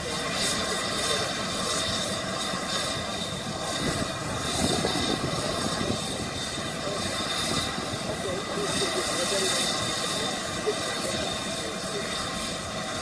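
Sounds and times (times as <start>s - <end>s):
crowd voices: 0.0s - 13.0s.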